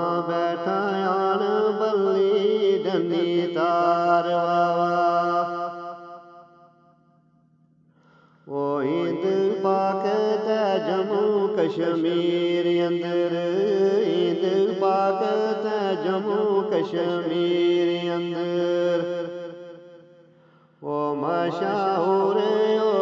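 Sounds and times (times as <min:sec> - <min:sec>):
man singing in chanting style: 0:00.0 - 0:06.6, 0:08.4 - 0:23.0.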